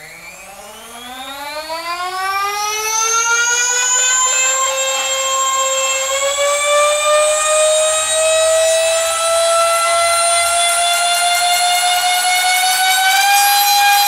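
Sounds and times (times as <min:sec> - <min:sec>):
flywheels whine rising in pitch: 0:00.0 - 0:14.0.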